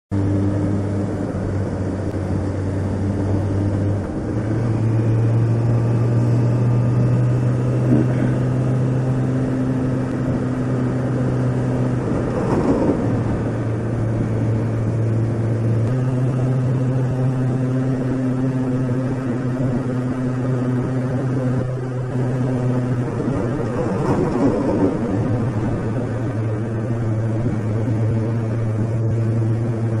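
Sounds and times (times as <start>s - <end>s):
motorcycle engine running: 0.1s - 30.0s.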